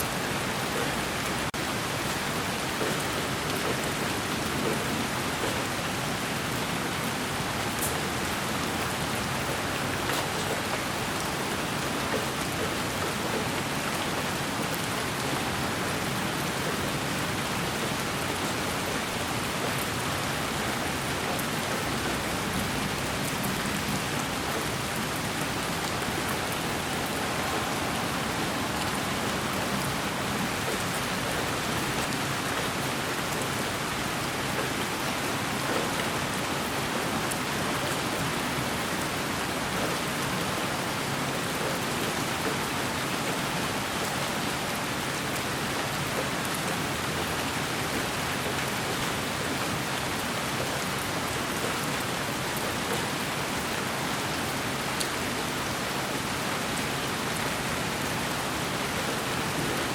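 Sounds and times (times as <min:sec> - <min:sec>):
rain hissing on a surface: 0:00.0 - 0:59.9.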